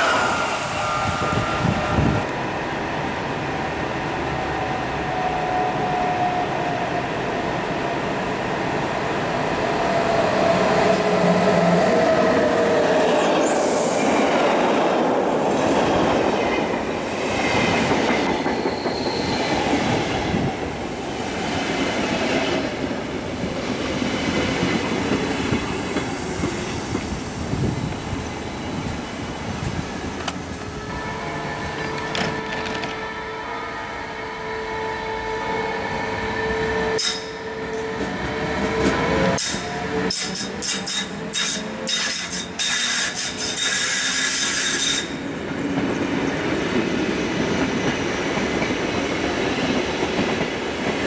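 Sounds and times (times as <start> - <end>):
electric locomotive whine: 0.0 - 51.0.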